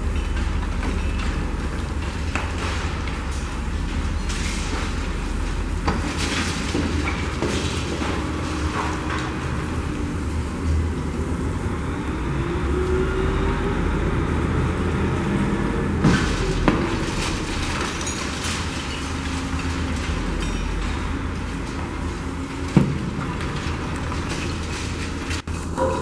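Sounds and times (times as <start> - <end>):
diesel crane engine rumbling: 0.0 - 26.0.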